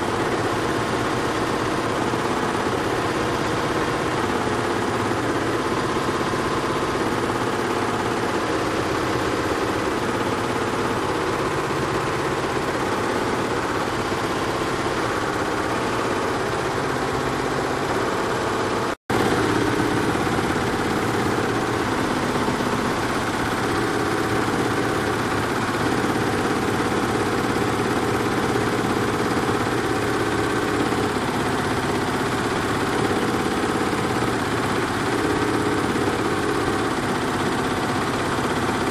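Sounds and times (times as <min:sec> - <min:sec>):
embroidery machine clattering: 0:00.0 - 0:38.9.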